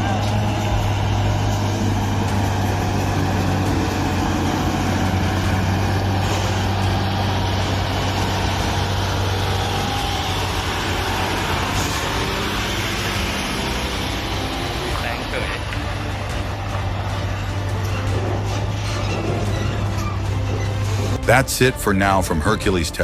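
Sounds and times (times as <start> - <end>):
large vehicle engine running: 0.0 - 23.0.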